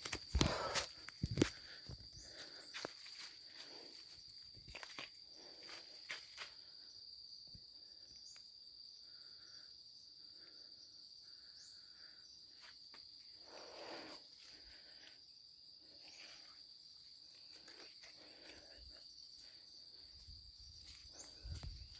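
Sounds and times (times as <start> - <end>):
cricket trilling: 0.0 - 21.9.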